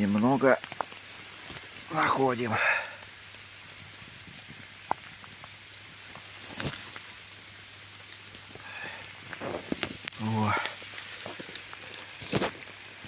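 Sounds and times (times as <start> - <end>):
light rain hissing: 0.0 - 13.0
raindrop ticks: 0.0 - 13.0.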